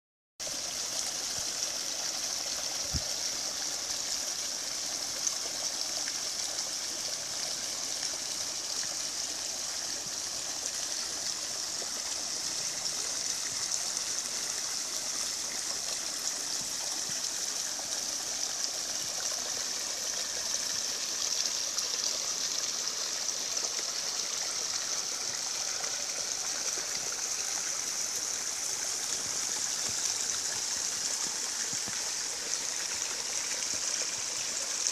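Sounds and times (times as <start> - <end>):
mountain stream rushing: 0.6 - 34.9.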